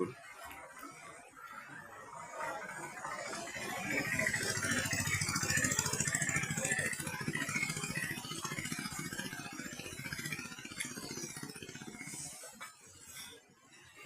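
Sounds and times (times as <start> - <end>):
vehicle engine pulsing: 2.1 - 13.5.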